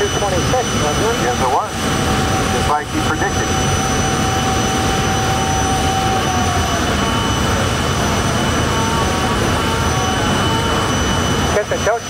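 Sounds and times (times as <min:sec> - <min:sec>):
jet engine idling: 0:00.0 - 0:12.0.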